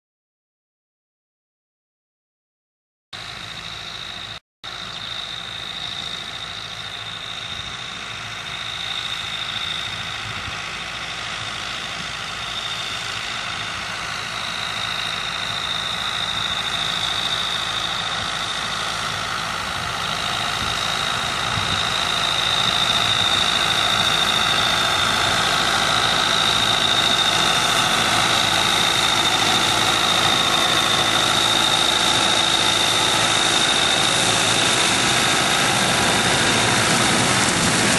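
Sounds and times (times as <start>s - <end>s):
machinery high whine: 3.2s - 37.9s
tractor diesel engine running: 3.2s - 37.9s.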